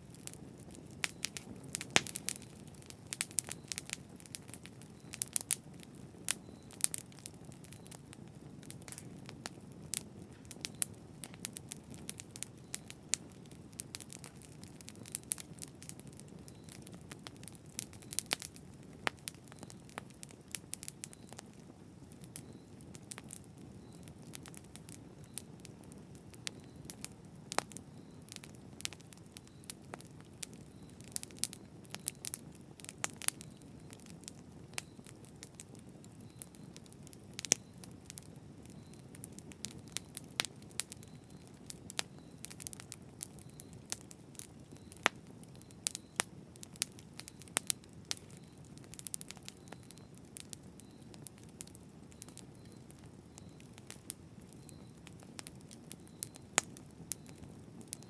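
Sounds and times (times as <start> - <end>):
wood crackling and popping: 0.0 - 58.0.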